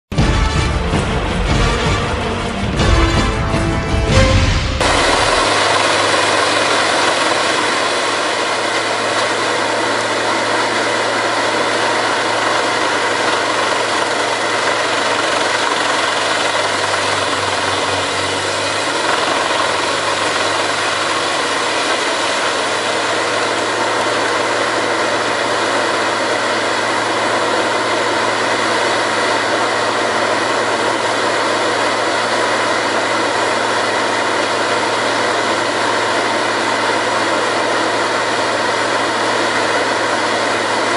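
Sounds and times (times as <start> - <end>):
wood chipper running: 0.1 - 40.9.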